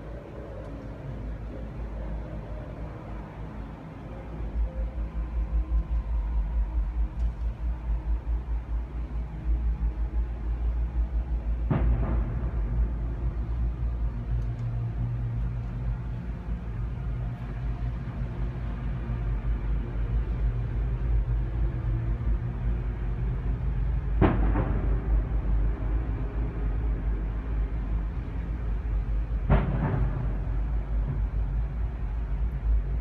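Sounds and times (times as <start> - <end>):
deep rumble in the sky: 0.0 - 33.0.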